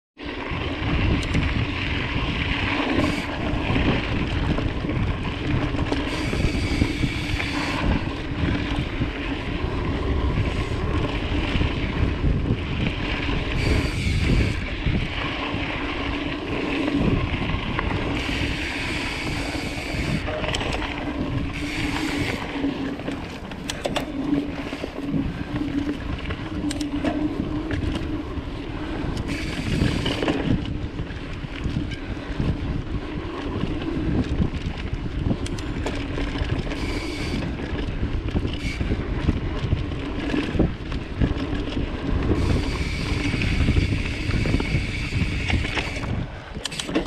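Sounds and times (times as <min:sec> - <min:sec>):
bike tyres on gravel: 0:00.2 - 0:47.0
wind buffeting microphone: 0:00.2 - 0:47.0.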